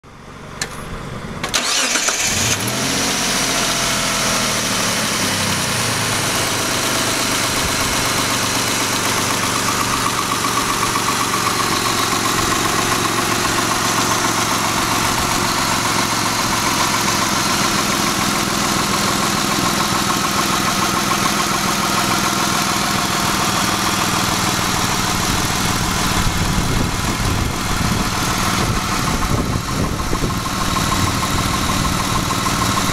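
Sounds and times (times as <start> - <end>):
car engine starting and idling: 0.0 - 32.9.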